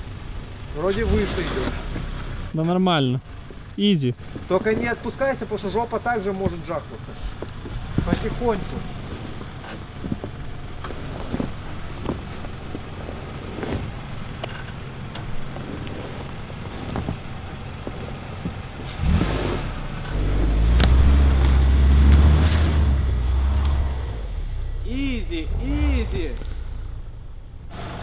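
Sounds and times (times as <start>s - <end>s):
car engine running: 0.0s - 28.0s
tyres crunching on snow: 0.7s - 28.0s.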